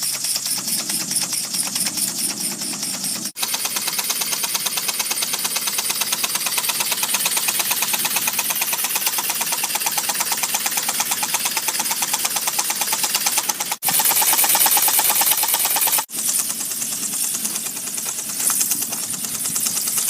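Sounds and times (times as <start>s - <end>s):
steam engine chuffing: 0.0s - 20.0s.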